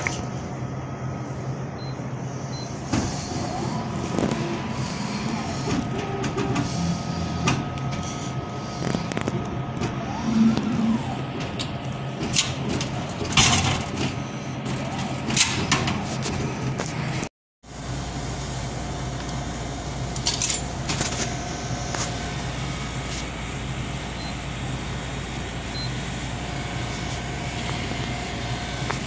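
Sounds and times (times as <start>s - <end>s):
vending machine motor whining: 0.0s - 16.8s, 19.0s - 29.0s
steady machine hum: 0.0s - 29.0s.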